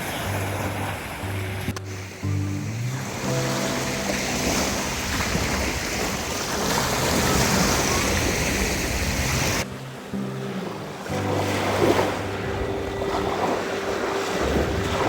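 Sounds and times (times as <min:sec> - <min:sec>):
soft background music: 0:00.0 - 0:08.4, 0:09.6 - 0:15.0
surf washing on beach: 0:00.0 - 0:15.0.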